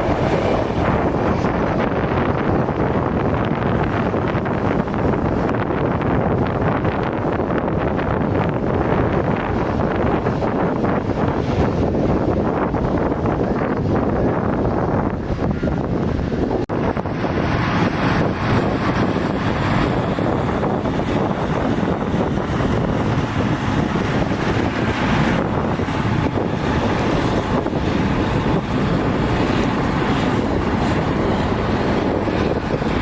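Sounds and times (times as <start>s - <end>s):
heavy earthmoving machinery running: 0.0s - 33.0s
wind buffeting microphone: 0.0s - 33.0s.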